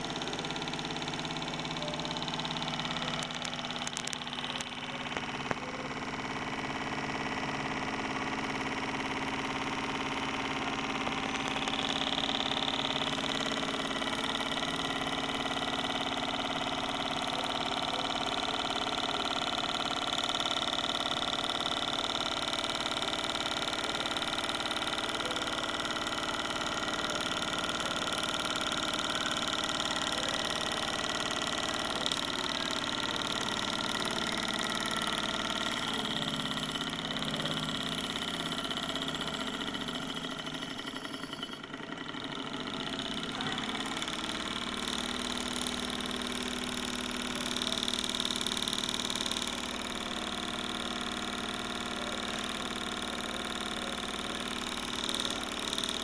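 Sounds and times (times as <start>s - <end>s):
small engine mechanical whir: 0.0s - 56.0s.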